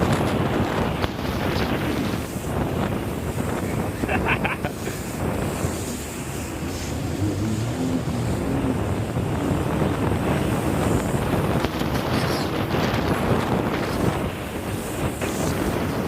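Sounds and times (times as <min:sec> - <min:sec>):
rushing water and spray: 0:00.0 - 0:16.0
wind buffeting microphone: 0:00.0 - 0:16.0.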